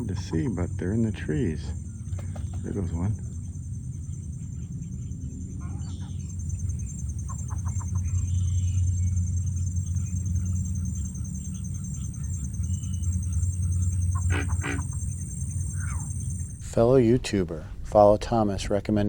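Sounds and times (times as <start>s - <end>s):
birds calling: 0.0s - 19.0s
harsh bird calls: 0.0s - 19.0s
steady low rumble: 0.0s - 19.0s.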